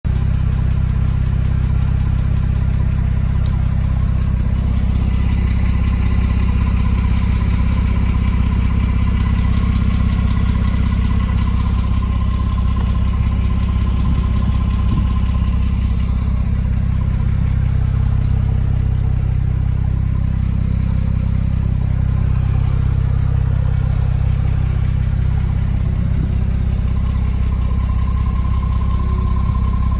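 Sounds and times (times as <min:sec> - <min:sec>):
car engine idling: 0:00.0 - 0:29.9
engine ticking: 0:00.0 - 0:29.9.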